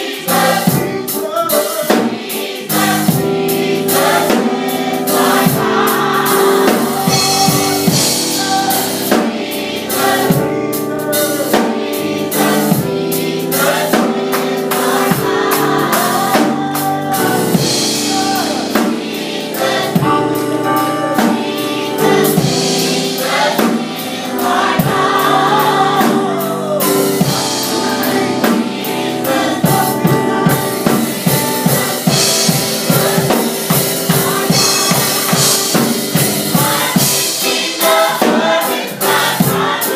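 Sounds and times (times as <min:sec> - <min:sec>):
band accompaniment: 0:00.0 - 0:39.9
drum kit beat: 0:00.0 - 0:39.9
gospel choir singing: 0:00.0 - 0:39.9.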